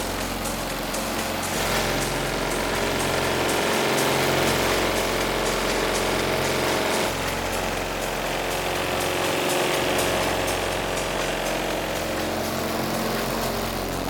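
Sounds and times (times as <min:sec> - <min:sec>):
bass-heavy music from subwoofers: 0:00.0 - 0:14.0.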